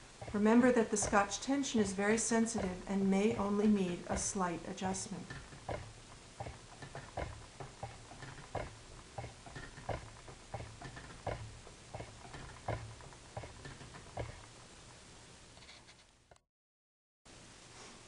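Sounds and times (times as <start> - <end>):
spinning wheel rhythmic knocking: 0.0 - 14.6.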